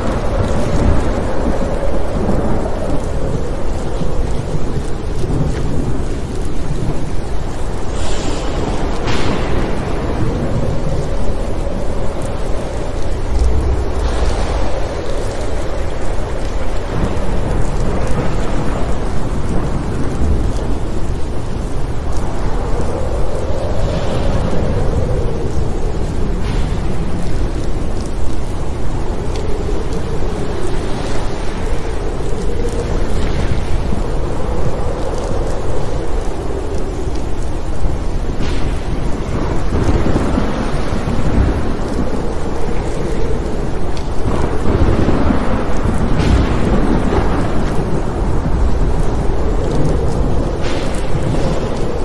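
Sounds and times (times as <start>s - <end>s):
rumble of thunder: 0.0s - 52.0s
steady rain: 0.0s - 52.0s.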